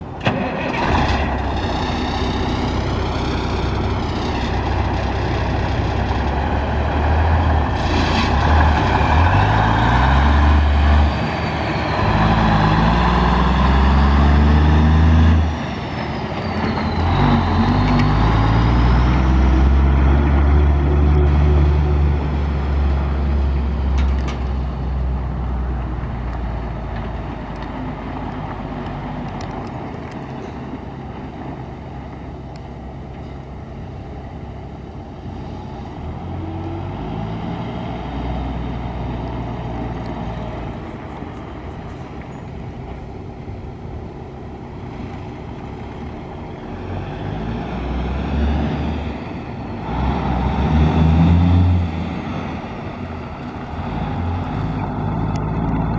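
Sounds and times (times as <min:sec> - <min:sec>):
truck engine running: 0:00.0 - 0:50.7.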